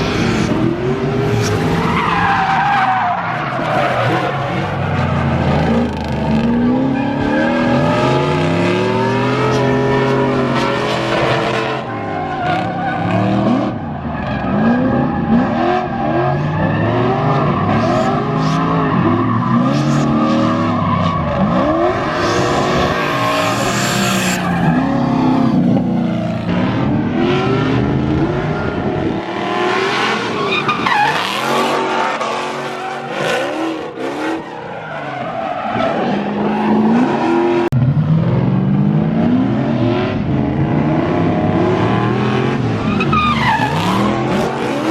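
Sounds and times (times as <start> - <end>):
tyres squealing and skidding: 0.0 - 37.7, 41.7 - 44.9
car engines revving: 0.0 - 44.9.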